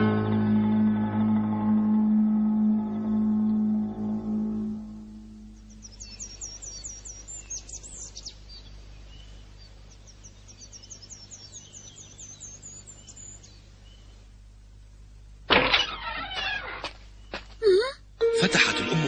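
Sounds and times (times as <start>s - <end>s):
low steady hum: 0.0s - 19.0s
birds chirping: 1.4s - 15.4s, 16.0s - 19.0s.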